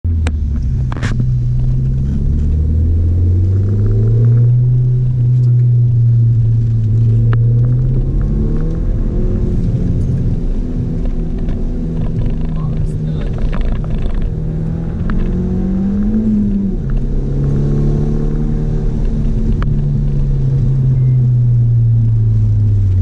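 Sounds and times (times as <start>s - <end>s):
car engine from inside cabin: 0.1s - 23.0s.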